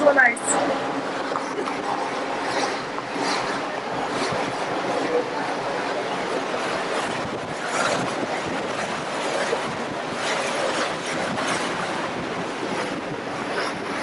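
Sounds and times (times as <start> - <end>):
water rushing past ship: 0.0 - 14.0.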